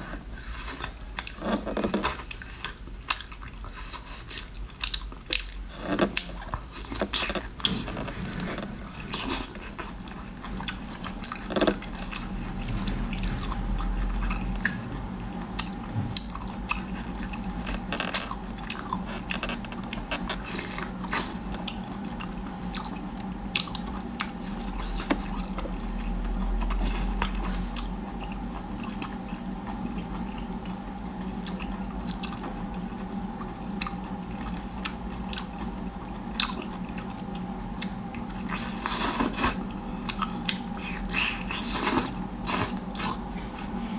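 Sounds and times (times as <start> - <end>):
person chewing food: 0.0 - 43.9
steady low hum: 0.0 - 43.9.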